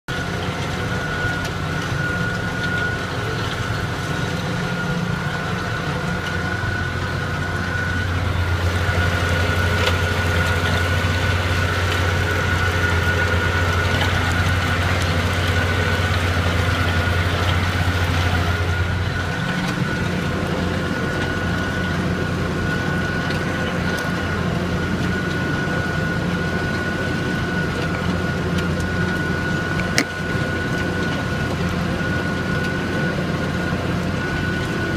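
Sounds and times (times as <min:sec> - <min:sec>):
tractor diesel engine drone: 0:00.0 - 0:34.9
high whine: 0:00.1 - 0:34.9.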